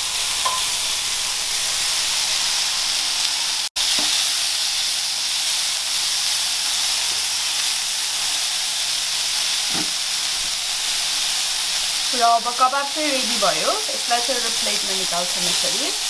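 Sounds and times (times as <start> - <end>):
kebabs sizzling on griddle: 0.0 - 16.0.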